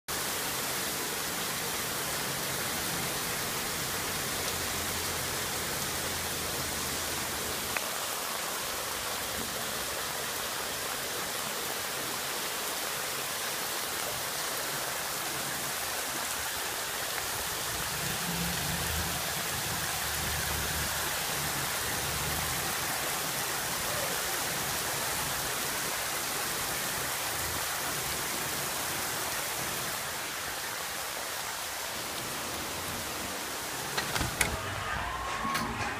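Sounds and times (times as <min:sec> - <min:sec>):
heavy rain on pavement and cars: 0:00.1 - 0:35.1.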